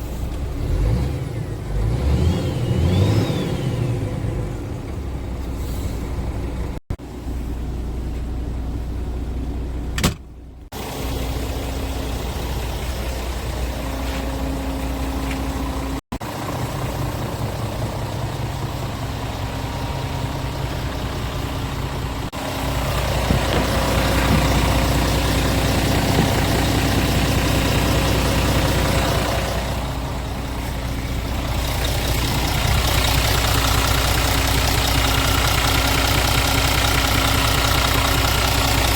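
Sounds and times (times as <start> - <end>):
truck diesel engine idling: 5.0 - 38.9.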